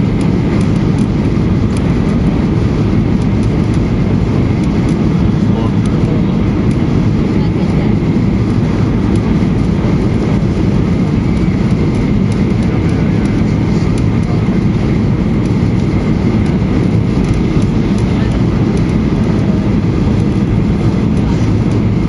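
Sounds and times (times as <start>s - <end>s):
airflow rushing in aircraft cabin: 0.0s - 22.0s
jet engines rumbling: 0.0s - 22.0s.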